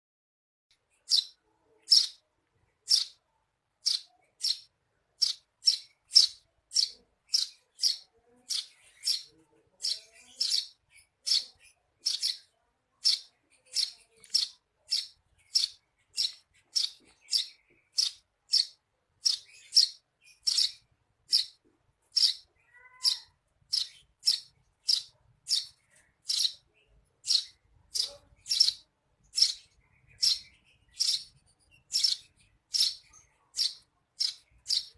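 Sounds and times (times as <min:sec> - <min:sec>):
sparrow chirping: 0:00.8 - 0:34.9.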